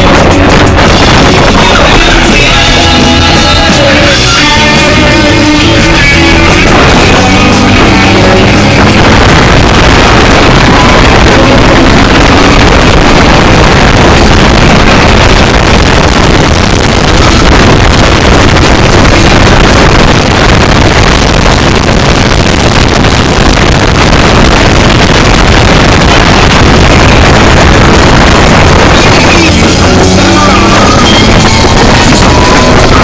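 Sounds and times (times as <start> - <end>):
distorted engine and wind roar: 0.0 - 33.0.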